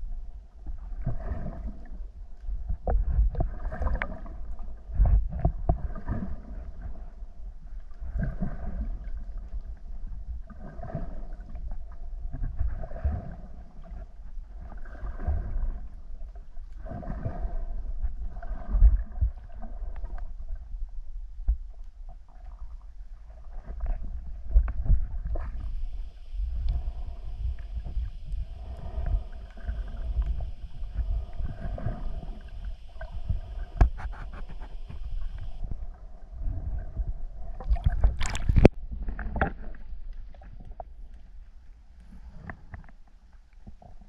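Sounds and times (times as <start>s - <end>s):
underwater rumble: 0.0s - 44.0s.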